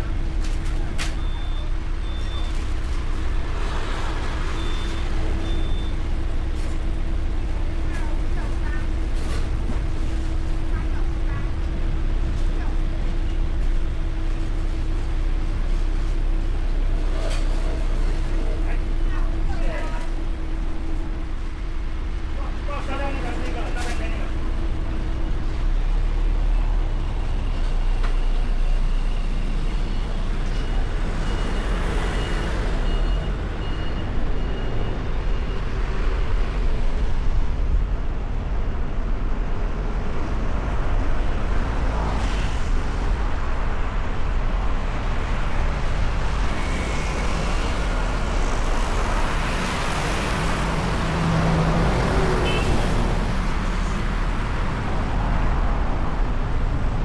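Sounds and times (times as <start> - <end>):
traffic rumble: 0.0 - 57.0
vehicles passing close by: 0.0 - 57.0.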